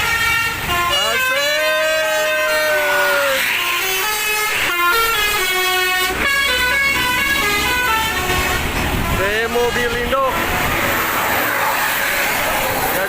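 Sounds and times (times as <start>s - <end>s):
multi-tone air horn playing a tune: 0.0s - 12.4s.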